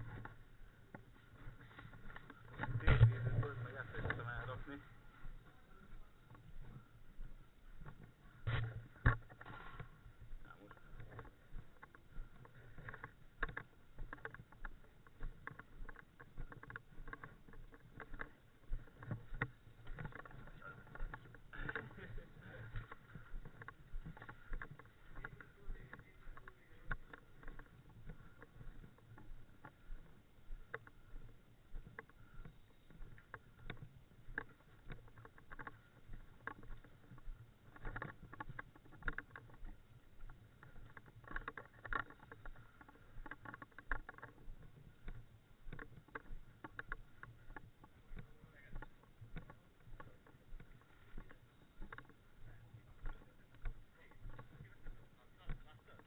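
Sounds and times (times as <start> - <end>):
clicks and crackling rustles: 0.0 - 56.0.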